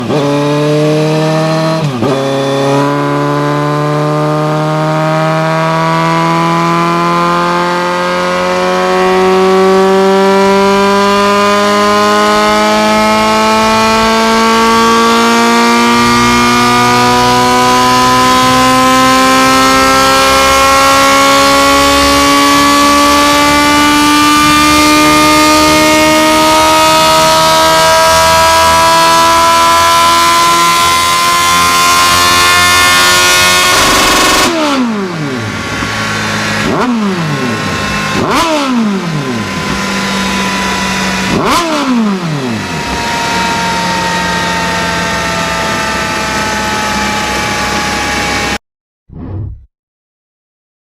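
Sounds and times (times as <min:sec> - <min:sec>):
motorcycle engine revving: 0:00.0 - 0:48.6.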